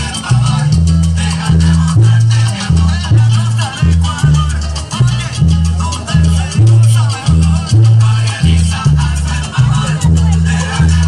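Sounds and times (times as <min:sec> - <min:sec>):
upbeat latin dance music: 0:00.0 - 0:11.0.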